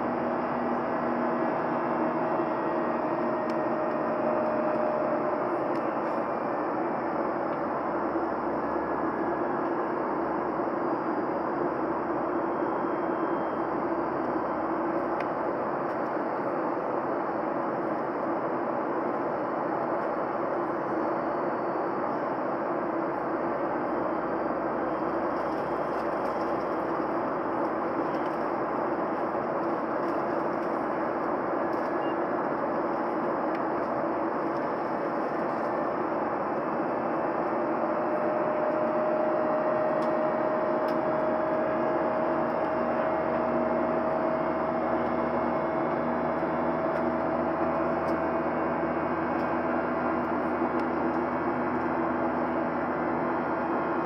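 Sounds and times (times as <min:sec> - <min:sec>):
jet engines and airflow rushing: 0:00.0 - 0:54.0.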